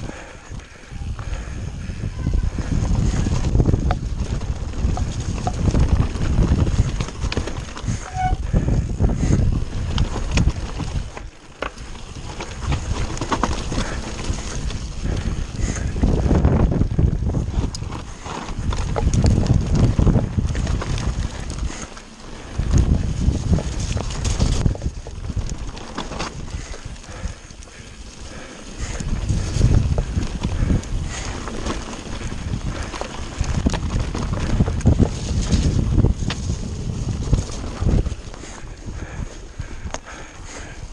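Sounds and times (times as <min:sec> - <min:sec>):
bike rattling: 0:00.0 - 0:40.9
wind buffeting microphone: 0:00.0 - 0:40.9
tyres crunching over stones: 0:03.2 - 0:08.6, 0:09.2 - 0:39.1.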